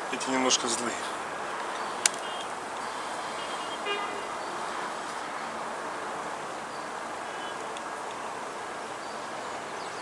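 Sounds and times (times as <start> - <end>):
honeybees buzzing: 0.0 - 9.2.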